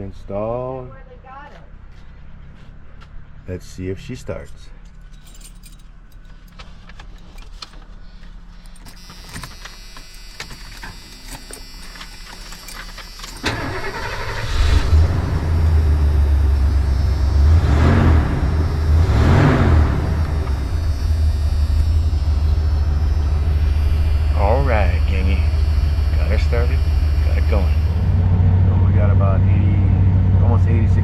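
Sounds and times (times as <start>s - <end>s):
van engine cranking and running: 4.8s - 31.0s.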